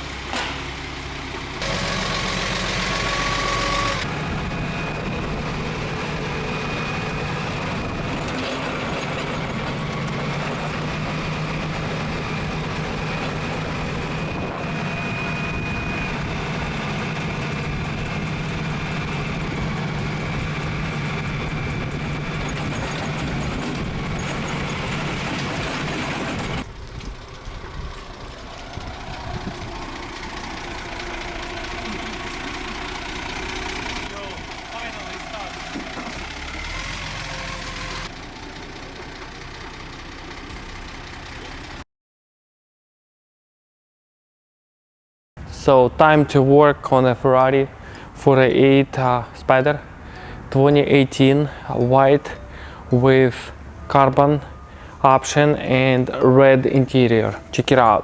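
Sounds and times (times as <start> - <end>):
forklift engine droning: 0.0 - 41.8, 45.4 - 58.0.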